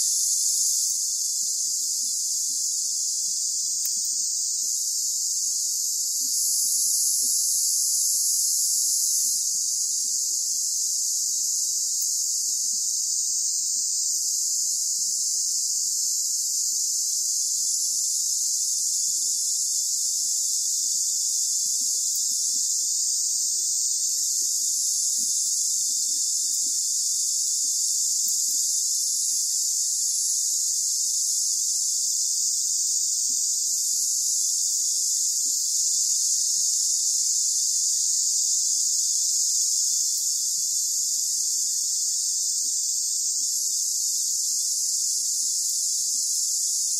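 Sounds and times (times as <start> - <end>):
insects chorus: 0.0 - 46.9.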